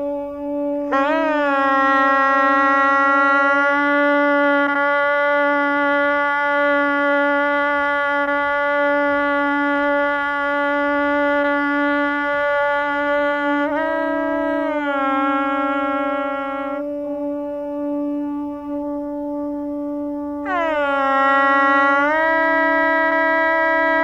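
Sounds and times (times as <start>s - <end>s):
conch shell blown: 0.0s - 24.0s.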